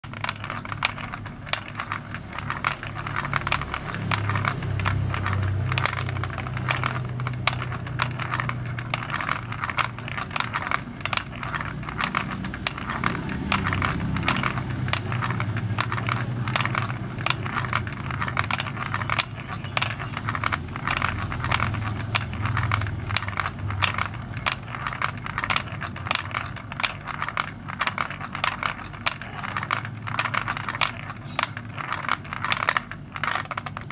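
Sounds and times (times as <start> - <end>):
balls rolling on plastic track: 0.0 - 33.9
clicks and clacks of balls: 0.0 - 33.9.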